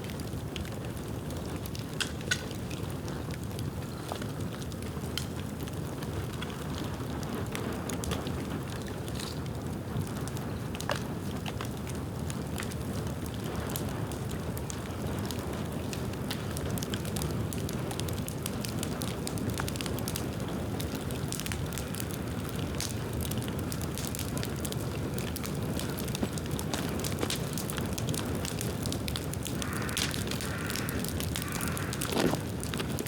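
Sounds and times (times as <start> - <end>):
bamboo crackling and snapping: 0.5 - 9.5, 10.7 - 33.0.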